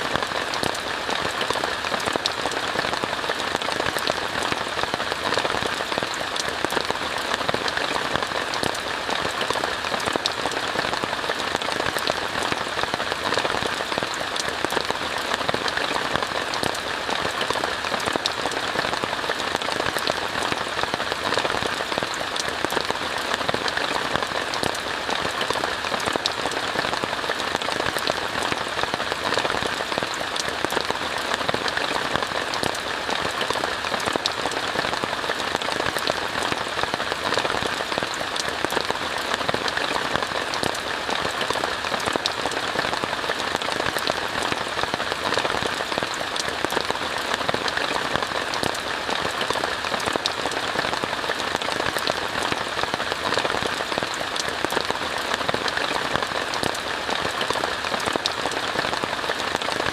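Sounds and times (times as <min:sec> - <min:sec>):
rain falling on a tent: 0:00.0 - 0:59.9.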